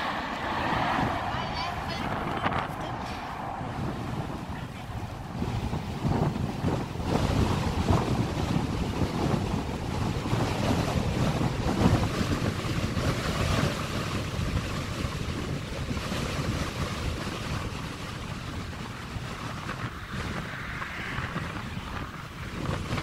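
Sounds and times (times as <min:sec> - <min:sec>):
jet airliner engines rushing: 0:00.0 - 0:16.2, 0:17.6 - 0:23.0
wind buffeting microphone: 0:00.0 - 0:23.0.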